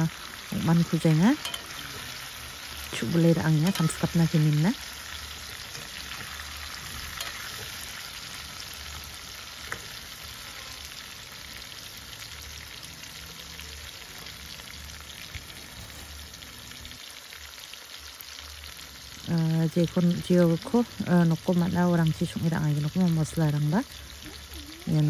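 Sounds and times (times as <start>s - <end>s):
chicken frying in oil: 0.0s - 25.0s.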